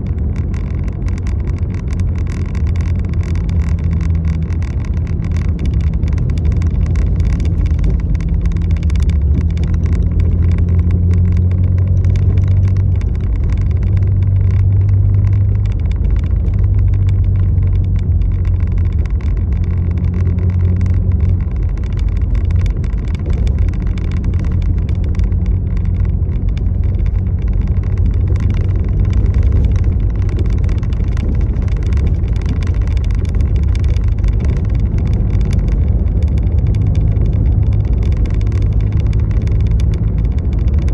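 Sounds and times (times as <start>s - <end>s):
faint fine crackle: 0.0s - 40.9s
road vehicle engine and road noise: 0.0s - 40.9s.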